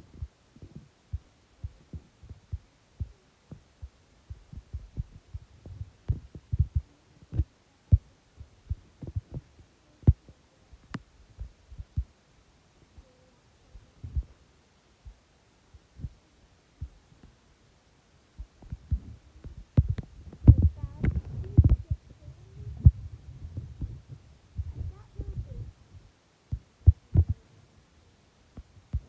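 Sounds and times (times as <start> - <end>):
soft low thumps: 0.0 - 12.2, 13.8 - 14.4, 15.0 - 16.2, 18.4 - 27.4, 28.6 - 29.0.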